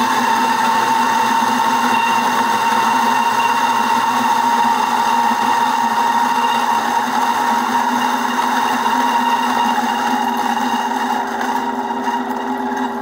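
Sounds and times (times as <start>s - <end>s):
coffee beans grinding hiss: 0.0s - 12.2s
coffee grinder motor whine: 0.0s - 13.0s.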